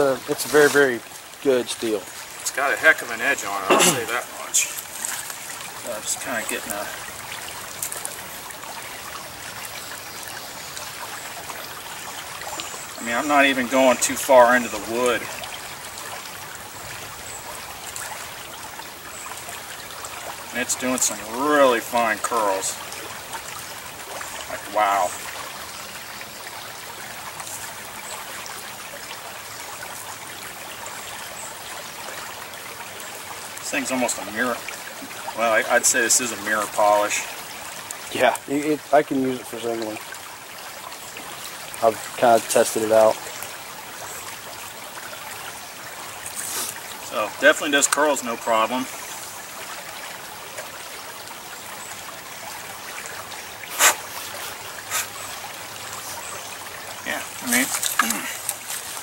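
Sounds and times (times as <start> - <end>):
creek flowing over gravel: 0.0 - 59.0.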